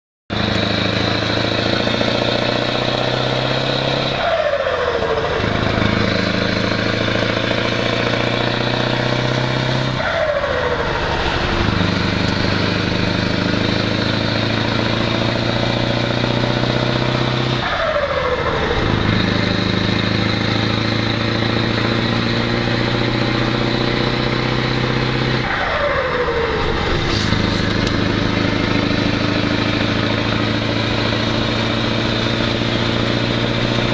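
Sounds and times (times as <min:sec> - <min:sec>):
truck engine running: 0:00.3 - 0:33.9.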